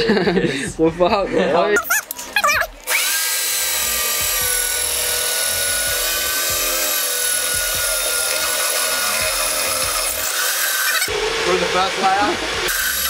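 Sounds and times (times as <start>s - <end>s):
power drill whining: 1.8s - 13.0s.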